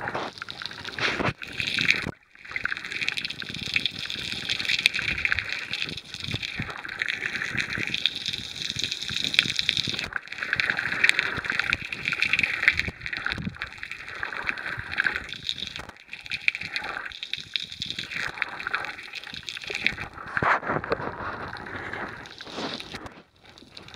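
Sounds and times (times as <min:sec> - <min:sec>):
crackle of small clicks: 0:00.0 - 0:23.9
underwater gurgling and sloshing: 0:00.0 - 0:23.9.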